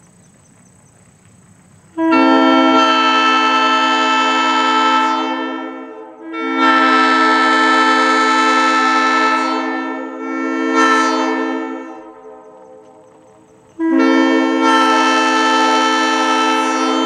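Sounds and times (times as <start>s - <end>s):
locomotive air horn blasts: 2.0s - 17.0s.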